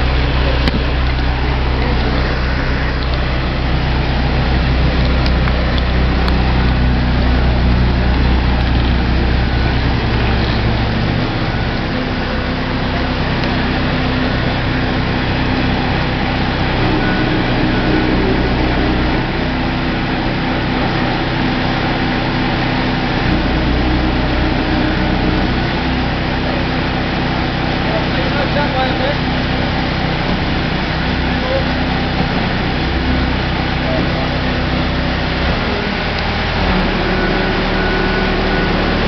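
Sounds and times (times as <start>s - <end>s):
engine humming: 0.0s - 39.0s.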